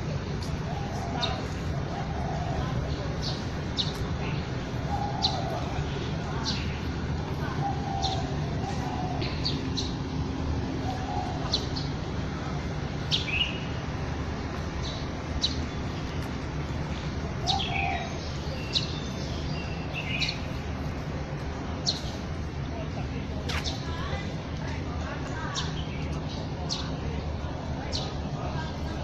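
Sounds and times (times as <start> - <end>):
birds chirping: 0.2 - 29.0.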